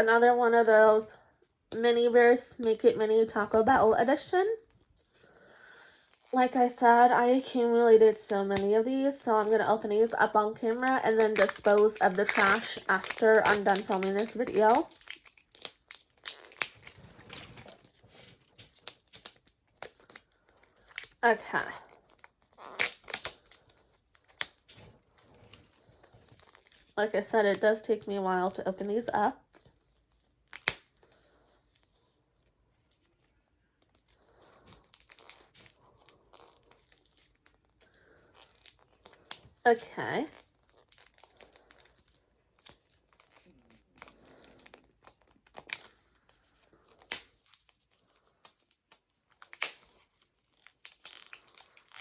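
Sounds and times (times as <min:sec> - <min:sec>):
wrapping crinkling and tearing: 0:07.6 - 0:27.8, 0:29.4 - 0:52.0.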